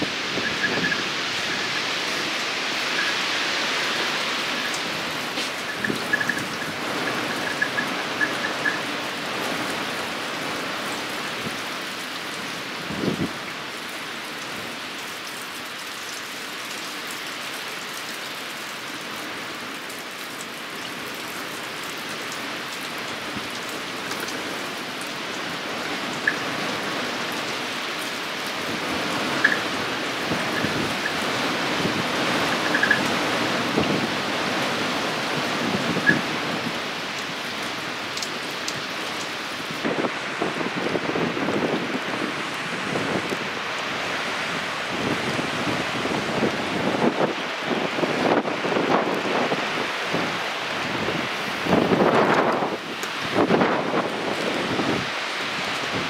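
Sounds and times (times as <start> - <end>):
rain falling in wind: 0.0 - 56.0.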